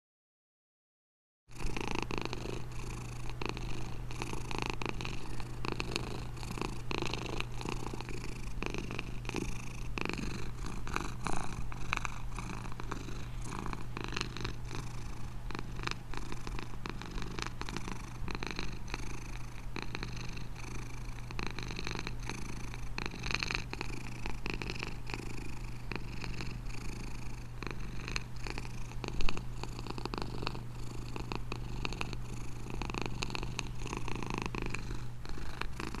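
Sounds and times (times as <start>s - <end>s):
cat purring: 1.5s - 36.0s.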